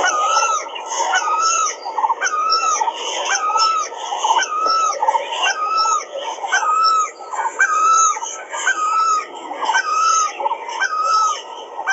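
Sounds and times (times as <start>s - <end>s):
birds calling: 0.0s - 11.9s.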